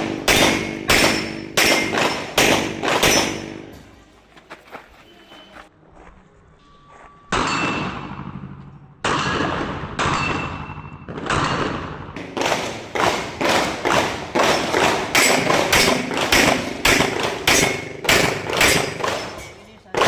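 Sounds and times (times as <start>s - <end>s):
pistol shots: 0.0s - 3.7s, 7.4s - 20.0s.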